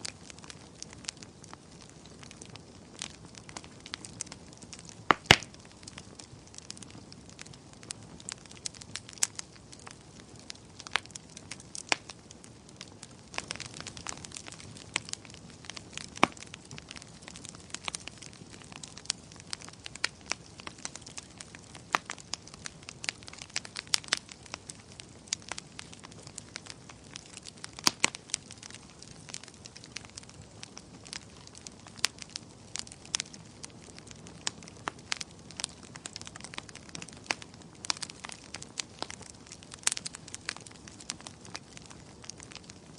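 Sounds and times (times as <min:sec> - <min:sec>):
burning wood crackling and popping: 0:00.0 - 0:42.9.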